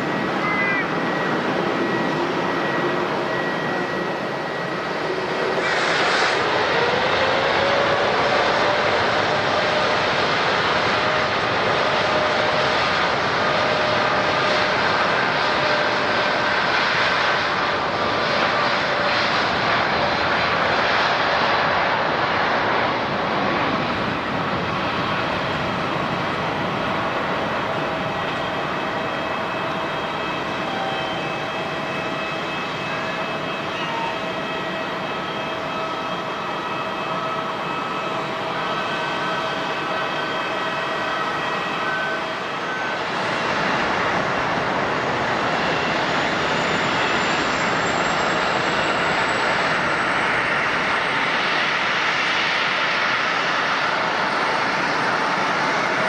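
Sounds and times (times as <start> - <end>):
airliner engines whining: 0.0 - 56.0.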